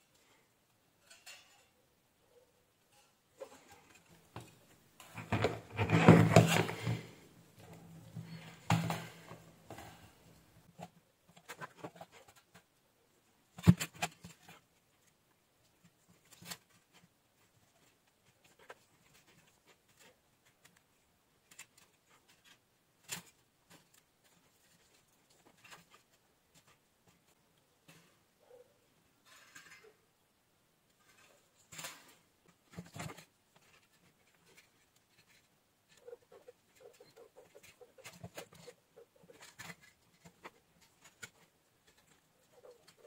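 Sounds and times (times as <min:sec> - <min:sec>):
plastic parts rustling and scraping: 0:02.9 - 0:12.8, 0:13.5 - 0:28.2, 0:29.2 - 0:30.0, 0:30.9 - 0:43.0.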